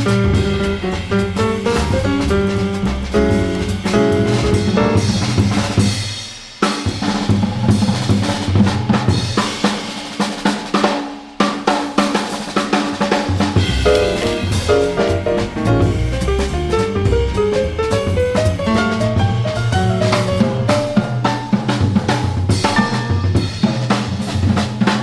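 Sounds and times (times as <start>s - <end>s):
piano and bass: 0.0s - 9.6s, 13.2s - 25.0s
jazz drum solo: 0.0s - 25.0s.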